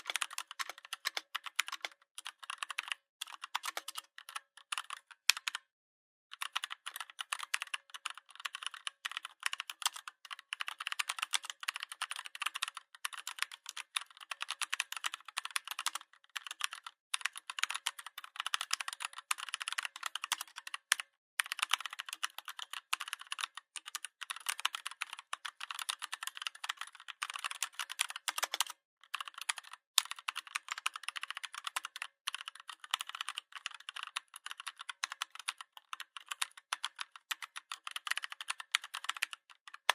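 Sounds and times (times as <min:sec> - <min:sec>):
mechanical keyboard typing: 0:00.0 - 0:05.6, 0:06.3 - 0:39.9.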